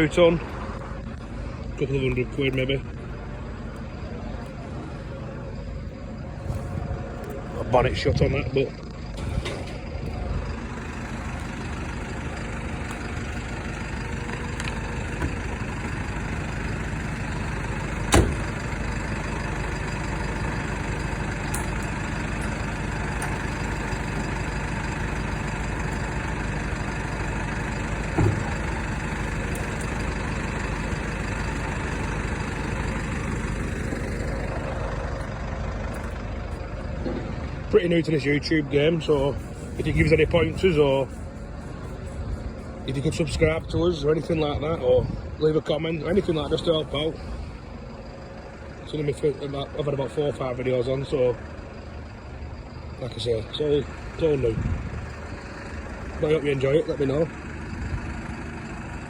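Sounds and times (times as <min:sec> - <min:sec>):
lorry engine idling: 0:00.0 - 0:59.0.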